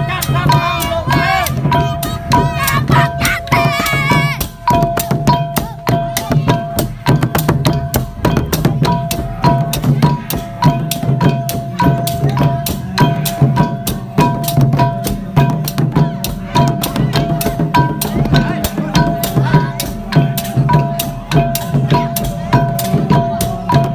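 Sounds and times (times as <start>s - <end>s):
hand drums beaten fast: 0.0s - 23.9s.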